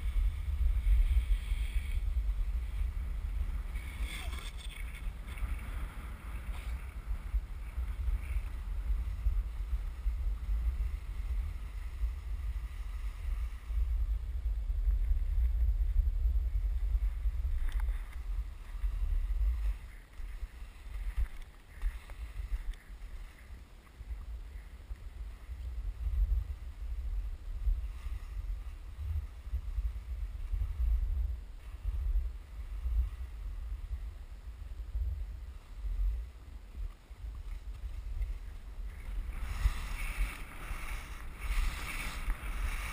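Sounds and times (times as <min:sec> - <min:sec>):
skis sliding on packed snow: 0:00.0 - 0:42.9
wind buffeting microphone: 0:00.0 - 0:42.9.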